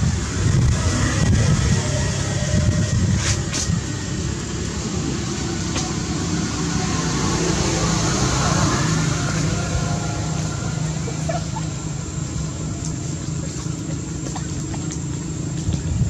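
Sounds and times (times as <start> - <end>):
constant hiss: 0.0 - 16.0
low hum: 0.0 - 16.0.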